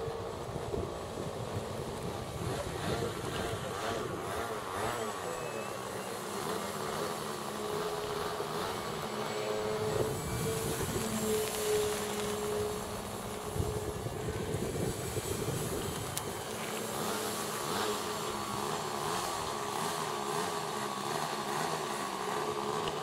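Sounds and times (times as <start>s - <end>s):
model plane flying overhead: 0.0s - 23.0s
steady propeller tone: 0.0s - 23.0s.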